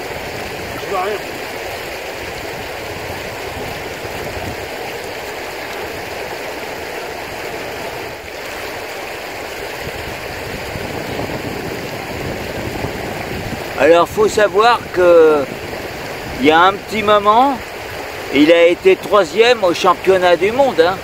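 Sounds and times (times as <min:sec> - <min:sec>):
river flowing over stones: 0:00.0 - 0:21.0.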